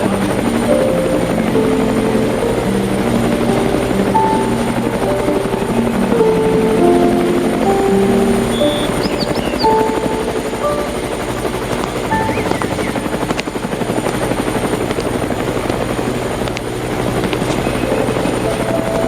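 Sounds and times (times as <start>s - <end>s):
soft musical notes: 0.0s - 13.8s, 17.1s - 19.0s
helicopter rotor chop: 0.0s - 19.0s.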